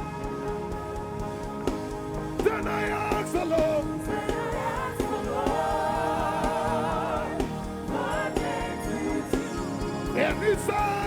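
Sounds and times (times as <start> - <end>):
band with kick drum beat: 0.0 - 11.0
choir singing held notes: 2.1 - 11.0.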